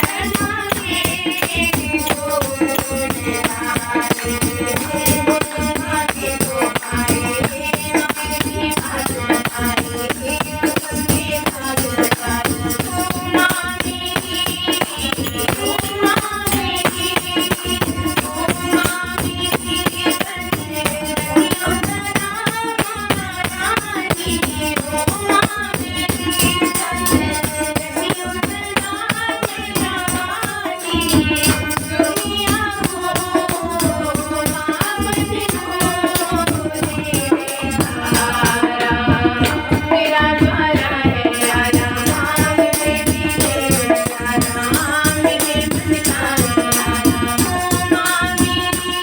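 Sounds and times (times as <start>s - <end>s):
shaken rattles and jingles: 0.0s - 49.0s.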